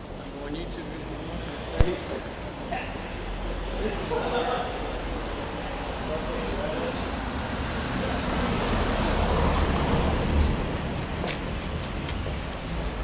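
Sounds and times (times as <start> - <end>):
outdoor rushing noise: 0.0 - 13.0.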